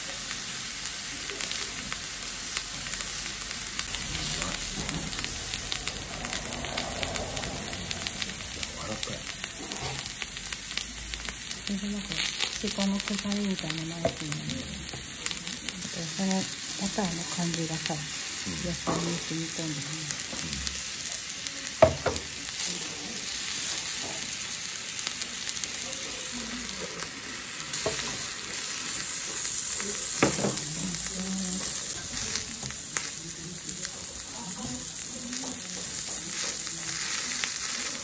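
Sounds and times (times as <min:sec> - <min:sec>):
food sizzling on a griddle: 0:00.0 - 0:38.0.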